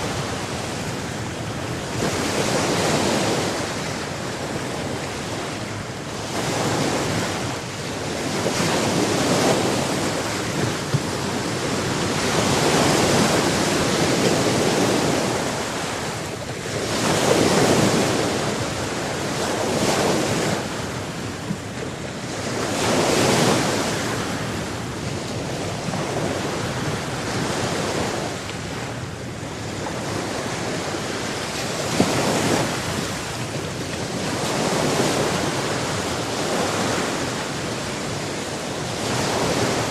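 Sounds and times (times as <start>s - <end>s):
ocean waves breaking on shore: 0.0s - 39.9s
wind noise on microphone: 0.0s - 39.9s.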